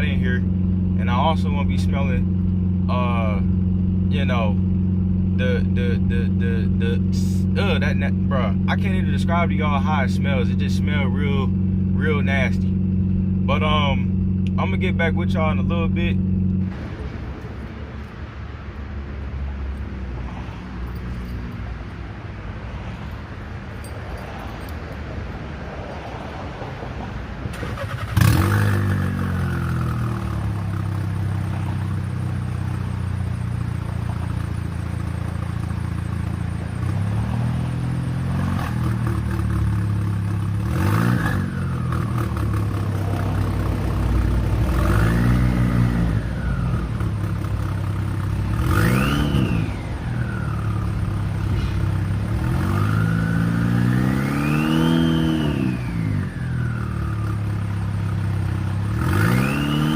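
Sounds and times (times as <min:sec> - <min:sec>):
car engine revving: 0:00.0 - 0:18.1, 0:27.5 - 0:59.9.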